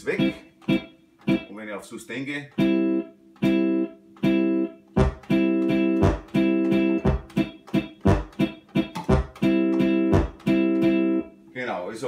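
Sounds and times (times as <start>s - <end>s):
sampled guitar chords: 0.0s - 11.5s.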